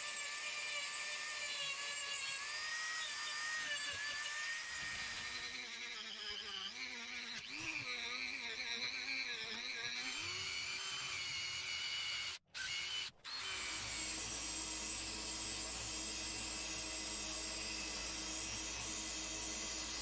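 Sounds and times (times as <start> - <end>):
power tool high whine: 0.0 - 20.0.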